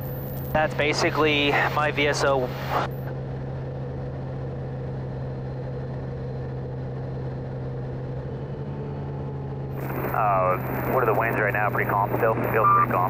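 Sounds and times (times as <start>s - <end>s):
light aircraft engine humming: 0.0s - 13.0s.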